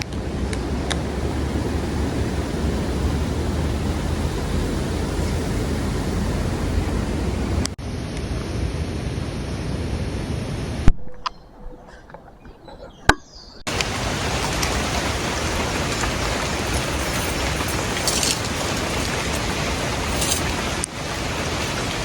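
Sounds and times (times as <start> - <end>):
steady rushing noise: 0.0 - 10.9, 13.7 - 22.0.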